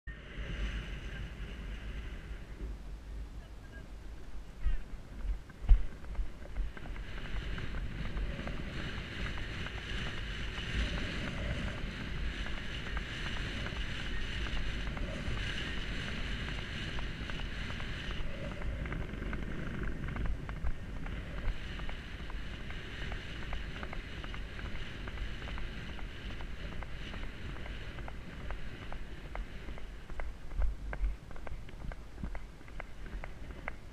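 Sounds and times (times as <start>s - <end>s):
wind buffeting microphone: 0.1s - 33.9s
hoofbeats on firm sand: 4.6s - 33.9s.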